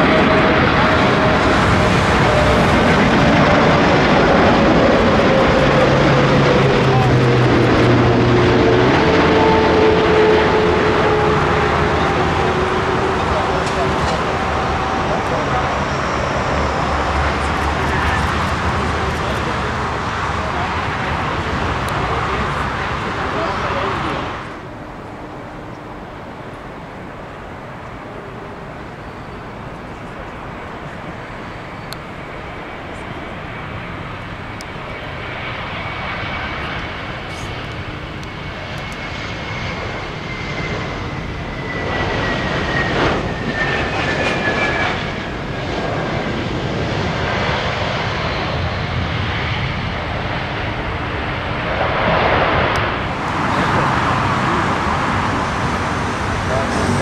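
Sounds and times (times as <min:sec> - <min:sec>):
high engine whine: 0:00.0 - 0:57.0
jet airliner engine noise: 0:00.0 - 0:57.0.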